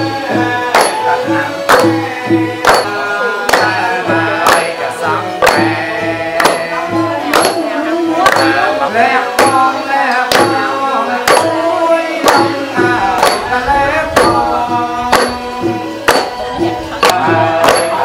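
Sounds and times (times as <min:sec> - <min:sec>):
drum strokes: 0:00.0 - 0:18.0
melody of sliding bending notes: 0:00.0 - 0:18.0.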